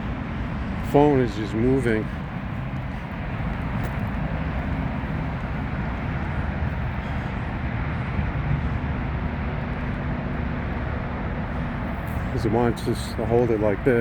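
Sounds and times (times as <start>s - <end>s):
movement rumble: 0.0s - 14.0s.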